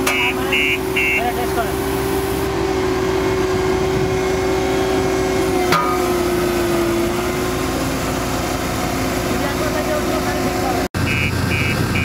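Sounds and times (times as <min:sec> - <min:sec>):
vibratory roller droning: 0:00.0 - 0:10.9.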